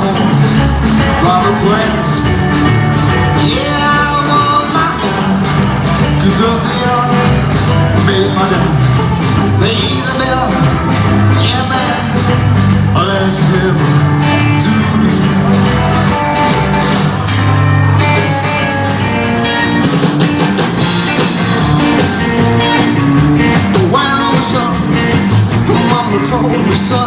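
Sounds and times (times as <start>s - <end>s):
rockabilly band playing: 0.0s - 27.0s.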